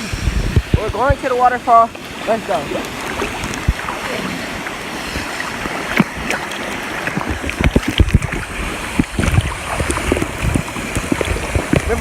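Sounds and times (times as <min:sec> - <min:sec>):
waterfall rushing: 0:00.0 - 0:12.0
people splashing through water: 0:00.6 - 0:12.0.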